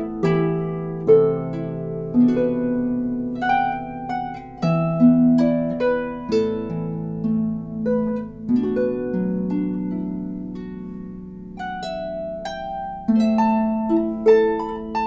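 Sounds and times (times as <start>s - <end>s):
harp playing slow melody: 0.0s - 15.0s.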